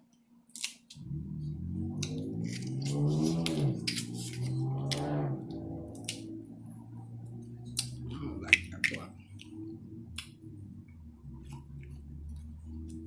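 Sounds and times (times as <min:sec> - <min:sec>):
low steady hum: 0:01.0 - 0:13.0.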